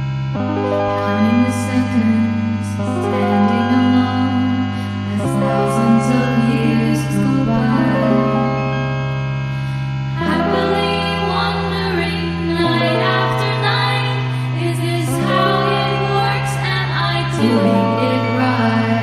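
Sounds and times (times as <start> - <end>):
song with held chords: 0.0 - 19.0
person singing: 0.6 - 8.6, 10.2 - 19.0.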